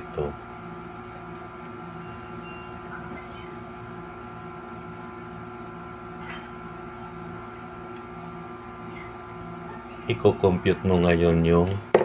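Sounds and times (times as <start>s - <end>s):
electrical room hum: 0.0s - 12.0s.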